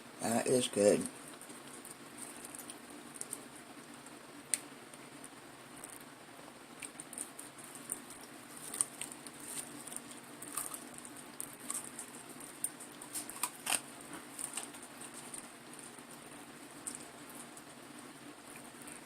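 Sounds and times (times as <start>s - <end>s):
crispy chicken eating crackles: 0.3s - 19.0s.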